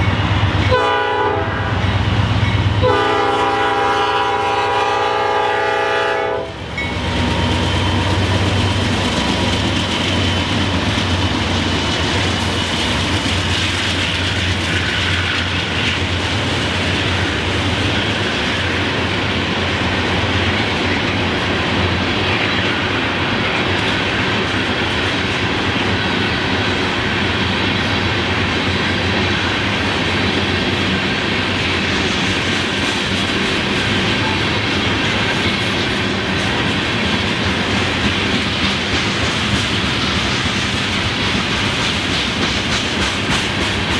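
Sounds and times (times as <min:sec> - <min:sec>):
freight train cars rumbling past: 0:00.0 - 0:43.9.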